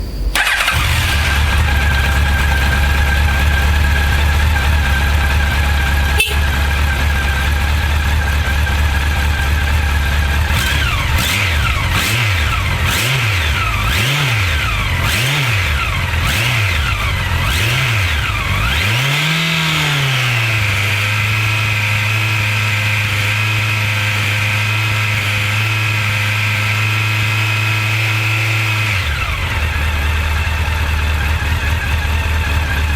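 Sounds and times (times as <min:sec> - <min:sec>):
motorcycle engine idling and revving: 0:00.3 - 0:32.9.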